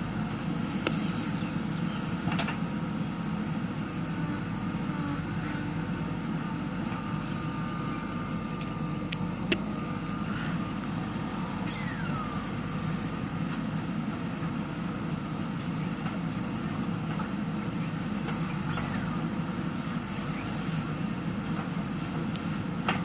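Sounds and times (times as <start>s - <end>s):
diesel engine running: 0.0s - 23.0s
faint steady whine: 0.0s - 23.0s.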